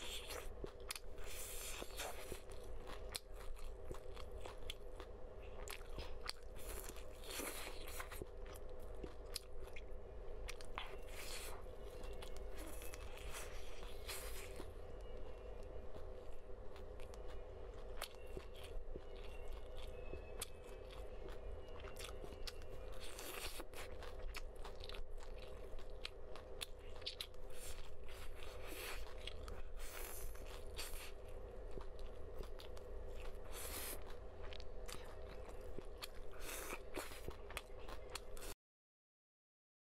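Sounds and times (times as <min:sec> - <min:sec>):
crunchy fried food chewing: 0:00.0 - 0:38.6
faint hum: 0:00.0 - 0:38.6.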